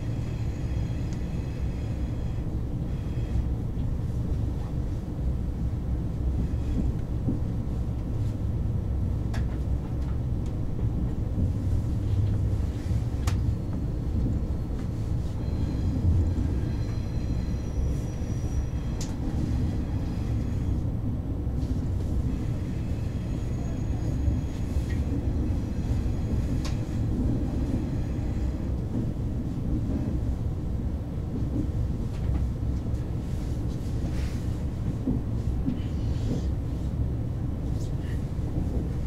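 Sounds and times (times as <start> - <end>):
train interior rumble: 0.0 - 39.0.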